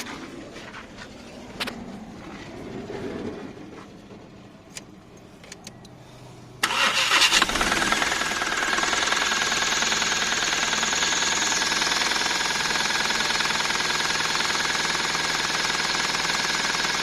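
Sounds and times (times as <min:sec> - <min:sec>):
engine cranking and idling: 0:01.2 - 0:17.0.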